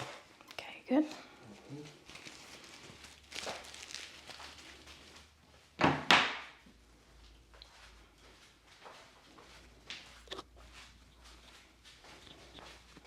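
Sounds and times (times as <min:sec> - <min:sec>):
soft rustling of movement: 0:00.0 - 0:05.8, 0:06.6 - 0:13.0.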